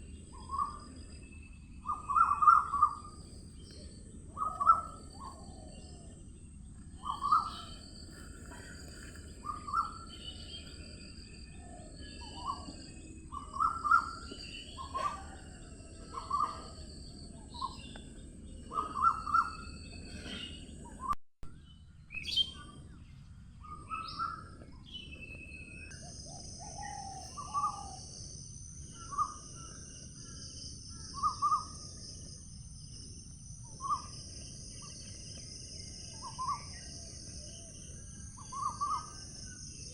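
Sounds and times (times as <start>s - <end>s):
high insect drone: 0.0s - 21.0s, 24.2s - 39.9s
higher insect trill: 0.0s - 21.0s, 25.9s - 39.9s
birds chirping: 0.0s - 39.9s.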